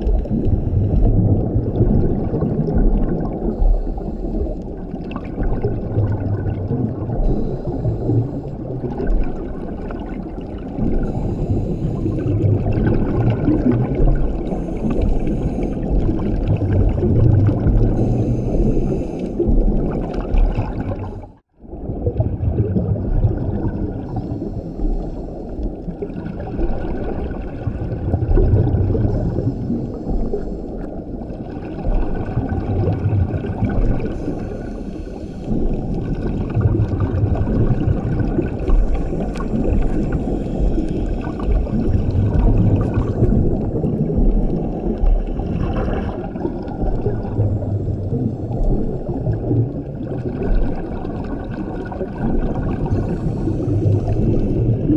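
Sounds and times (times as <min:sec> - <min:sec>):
diver exhaling bubbles underwater: 0:00.0 - 0:54.9
underwater noise: 0:00.0 - 0:54.9.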